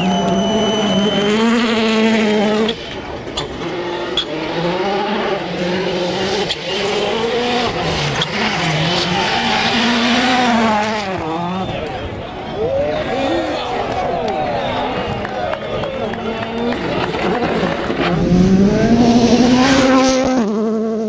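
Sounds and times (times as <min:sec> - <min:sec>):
rally car engine at full speed: 0:00.0 - 0:21.0.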